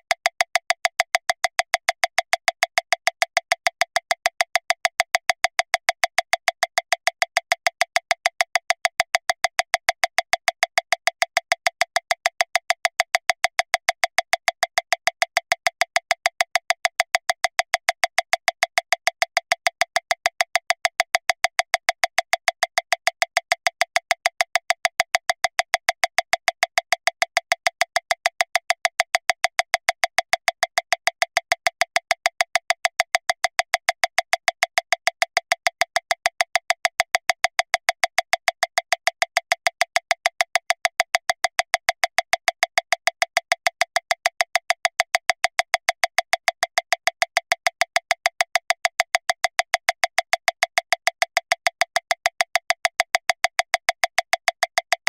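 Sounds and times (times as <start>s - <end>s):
metronome clicking fast: 0.2s - 55.0s.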